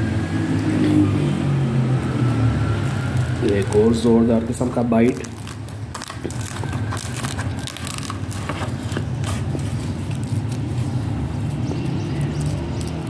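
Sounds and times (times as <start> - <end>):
bread tearing crackles: 1.8 - 13.0.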